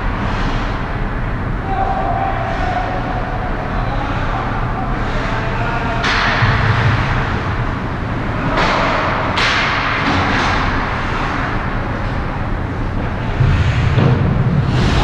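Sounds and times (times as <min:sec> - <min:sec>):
ice rink rumble: 0:00.0 - 0:15.0.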